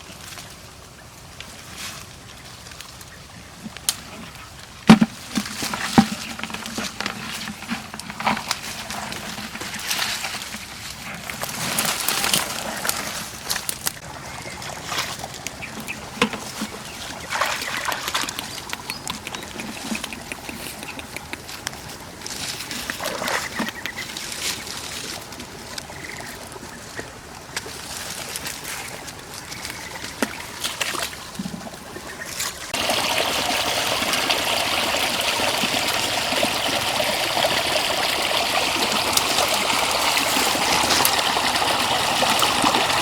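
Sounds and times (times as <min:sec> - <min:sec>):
water splashing and sloshing: 0:00.0 - 0:43.0.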